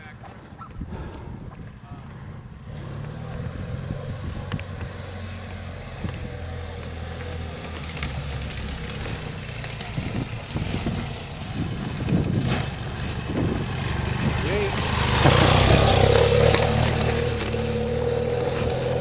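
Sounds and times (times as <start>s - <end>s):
motorcycle engine running: 1.9s - 19.0s.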